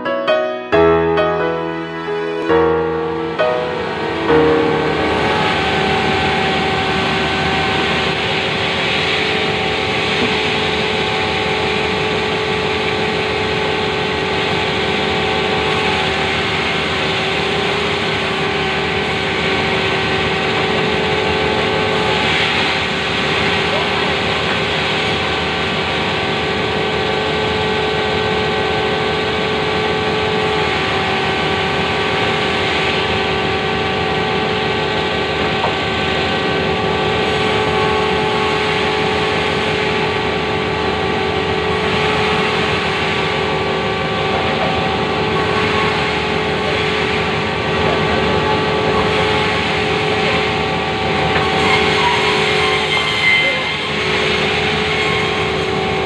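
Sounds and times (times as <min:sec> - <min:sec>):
band saw machine hum: 0:00.8 - 0:55.0.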